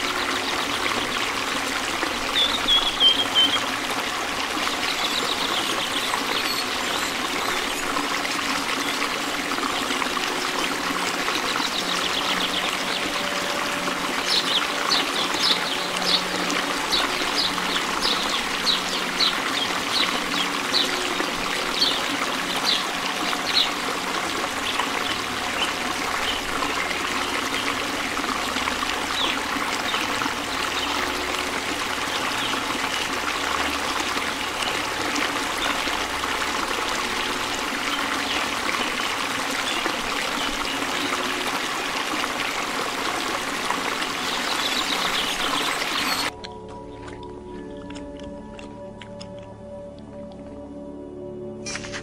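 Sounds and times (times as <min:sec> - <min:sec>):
water trickling: 0:00.0 - 0:49.0.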